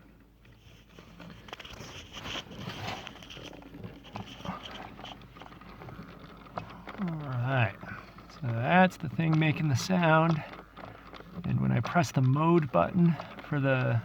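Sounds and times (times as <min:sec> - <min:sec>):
rapid clicking behind dashboard: 0:00.3 - 0:14.0.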